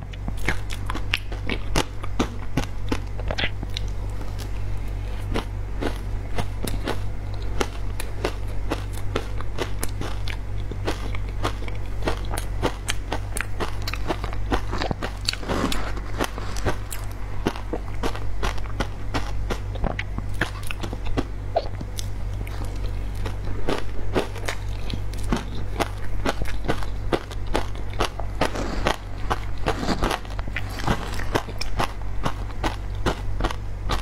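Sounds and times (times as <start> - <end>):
ice crunching while chewed: 0.3 - 34.0.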